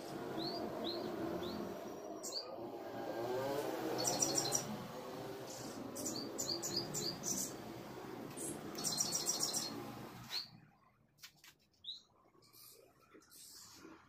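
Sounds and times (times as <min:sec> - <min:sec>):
small birds chirping: 0:00.0 - 0:10.7, 0:11.7 - 0:13.8.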